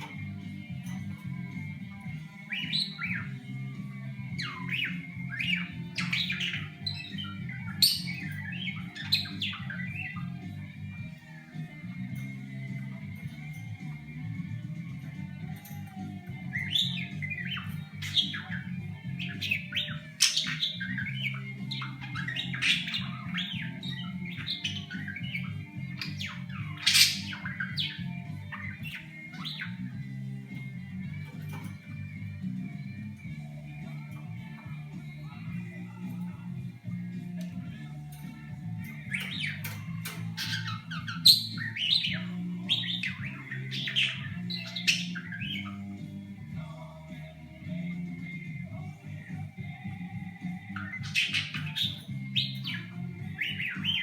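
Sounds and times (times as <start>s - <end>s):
budgerigar chirping: 0.0s - 13.0s, 16.3s - 37.0s, 37.7s - 46.8s, 50.4s - 54.0s
background guitar music: 0.0s - 54.0s.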